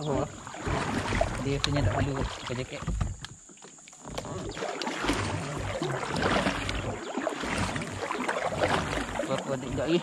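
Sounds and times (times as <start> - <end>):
water splashing from paddling: 0.0 - 10.0.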